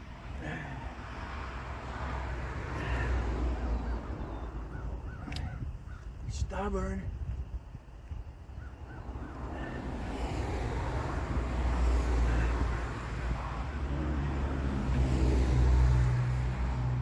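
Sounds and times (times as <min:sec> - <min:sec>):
road vehicle passing: 0:00.0 - 0:06.1, 0:08.4 - 0:17.0.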